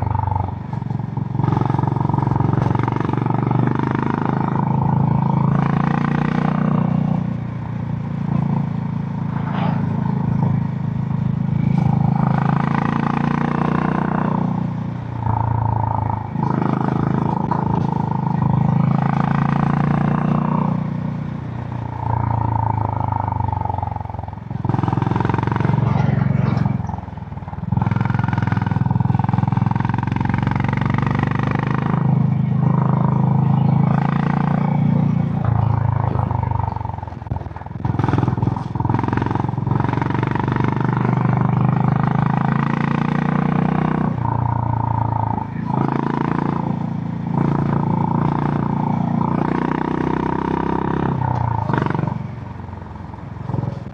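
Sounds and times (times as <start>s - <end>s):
single-cylinder motorcycle engine: 0.0s - 53.9s.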